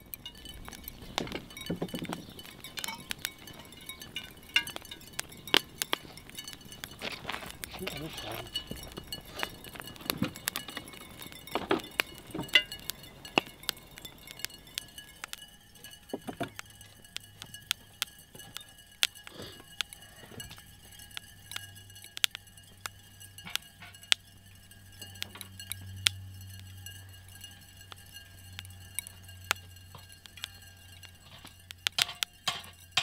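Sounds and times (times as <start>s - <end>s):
ceramic bowls pinging and ticking: 0.0s - 33.0s
low hum: 0.0s - 33.0s.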